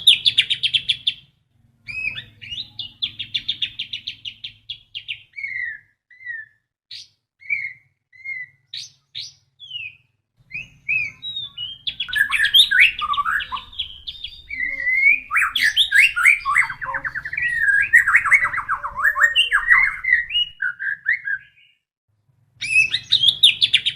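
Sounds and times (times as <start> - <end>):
bird whistling and trilling: 0.0 - 1.2, 1.9 - 21.8, 22.6 - 23.9.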